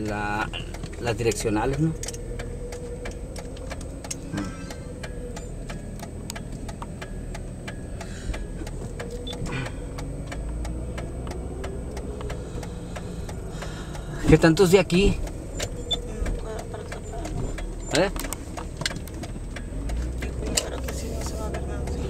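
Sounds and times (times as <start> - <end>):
car engine rumble: 0.0 - 22.0
turn signal clicking: 0.0 - 22.0.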